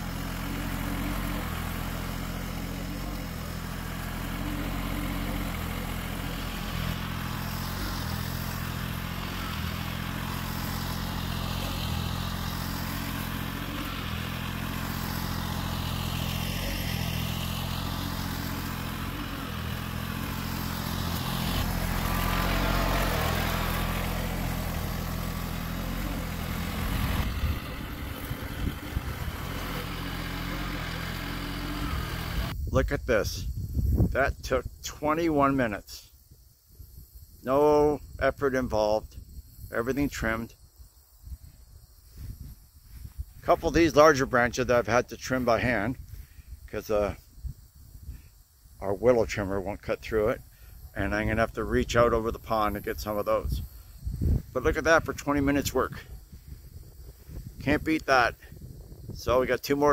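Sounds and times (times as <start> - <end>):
garden tractor engine running: 0.0 - 32.9, 42.9 - 47.0, 48.8 - 59.9.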